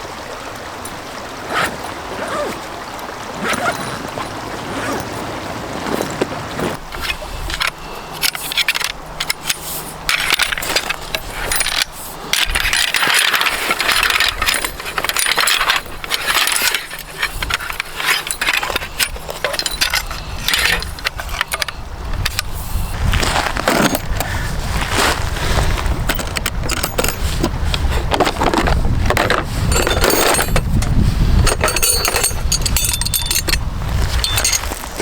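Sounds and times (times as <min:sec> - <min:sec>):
rustling: 0:03.3 - 0:35.0
metallic clinking and rattling: 0:03.4 - 0:22.6, 0:26.0 - 0:35.0.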